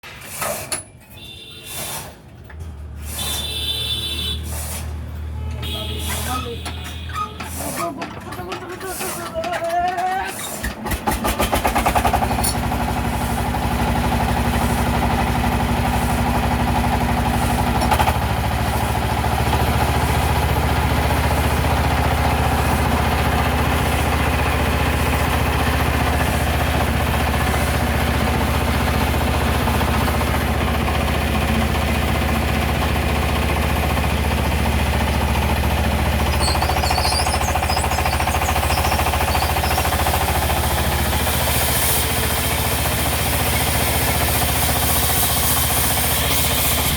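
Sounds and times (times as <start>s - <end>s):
diesel engine running: 2.3s - 46.9s.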